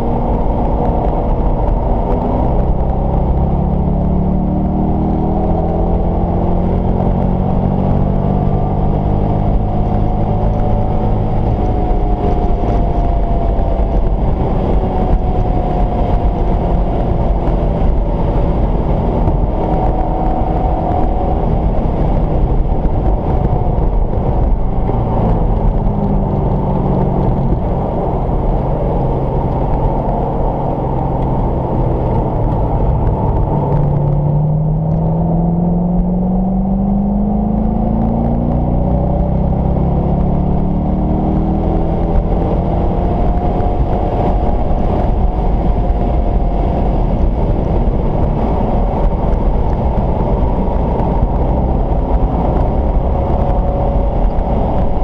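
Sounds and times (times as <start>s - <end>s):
car engine from inside cabin: 0.0s - 55.0s
wind and road noise: 0.0s - 55.0s.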